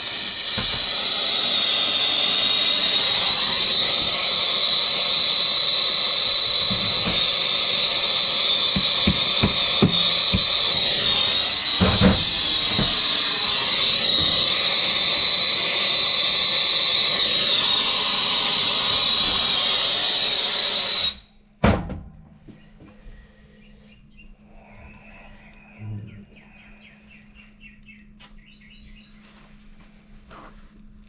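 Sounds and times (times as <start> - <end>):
gas torch hissing and whistling: 0.0 - 21.4, 22.9 - 27.3.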